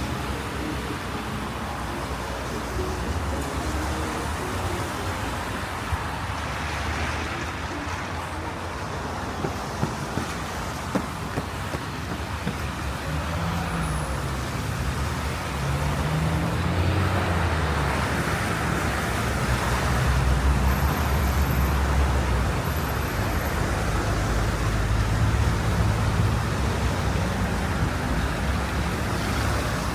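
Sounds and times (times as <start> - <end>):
road noise: 0.0 - 29.9
vehicle engines humming: 0.0 - 29.9.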